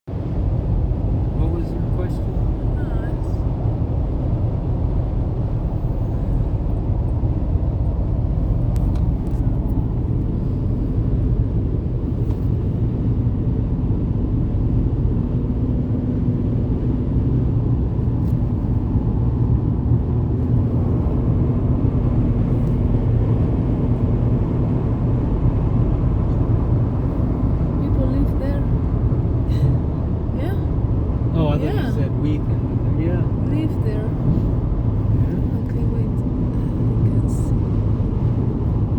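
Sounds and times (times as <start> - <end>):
car driving on a road: 0.1 - 38.9.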